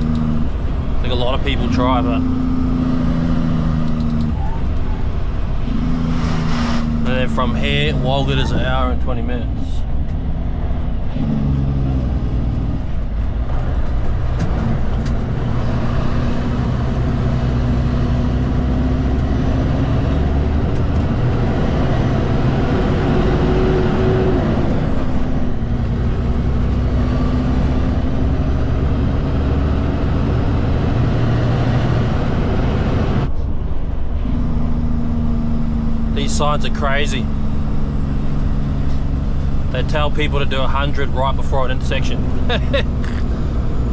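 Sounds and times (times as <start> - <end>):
diesel engine running: 0.0 - 43.9
road noise: 0.0 - 43.9.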